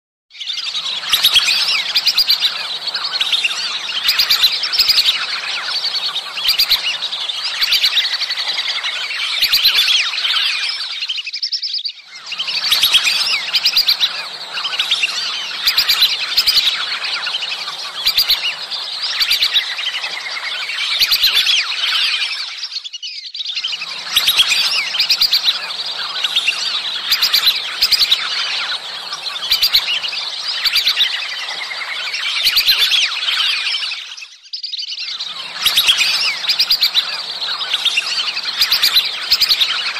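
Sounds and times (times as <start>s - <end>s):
whistling ducks calling: 0.4s - 39.9s.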